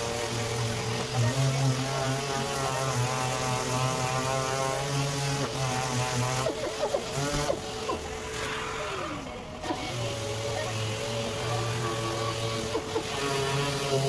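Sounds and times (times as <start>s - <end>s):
orbital sander on car bumper: 0.0s - 14.0s.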